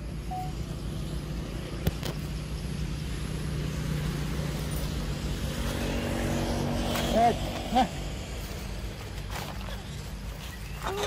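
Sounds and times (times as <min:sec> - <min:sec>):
motorbike engines droning: 0:00.0 - 0:11.0.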